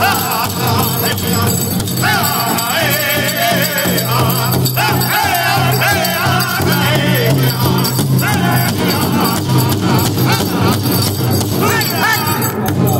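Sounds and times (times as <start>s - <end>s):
group singing in high voices: 0.0s - 12.7s
large drum beating: 0.0s - 12.9s.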